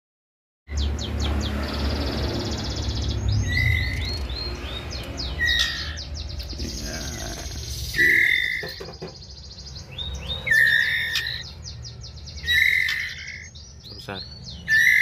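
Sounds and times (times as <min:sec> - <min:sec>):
bird chicks chirping: 0:00.7 - 0:15.0.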